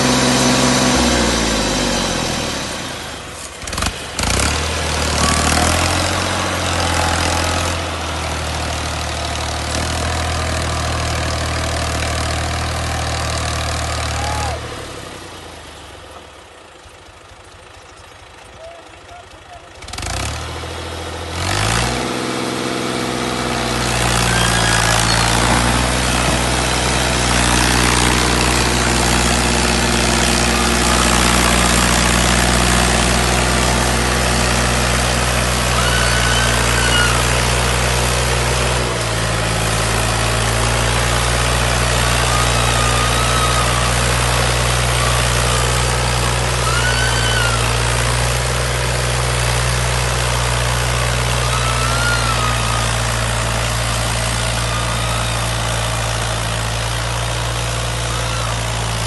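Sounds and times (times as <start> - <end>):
large diesel engine running: 0.0 - 59.0.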